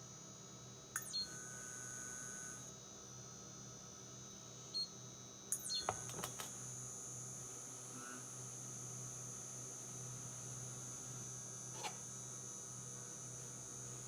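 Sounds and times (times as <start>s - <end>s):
cooktop high-pitched whine: 0.0s - 14.0s.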